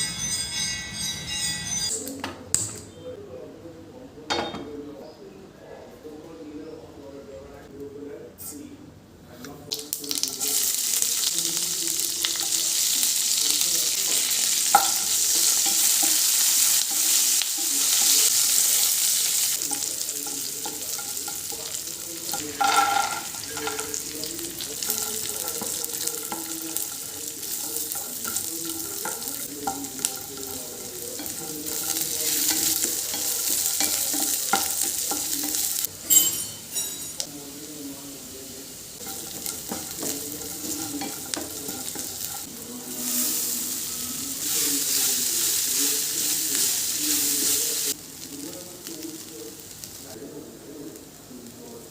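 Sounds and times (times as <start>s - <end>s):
food sizzling in a pan: 9.7s - 51.9s
utensil stirring food: 9.7s - 51.9s.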